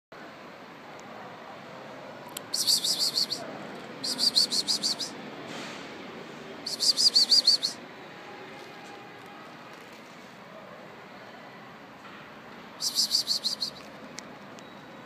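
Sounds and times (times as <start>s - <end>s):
low street hiss: 0.2s - 15.0s.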